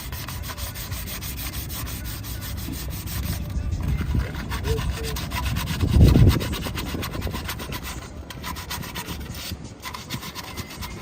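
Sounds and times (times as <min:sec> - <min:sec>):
abrasive scrubbing metal: 0:00.0 - 0:11.0.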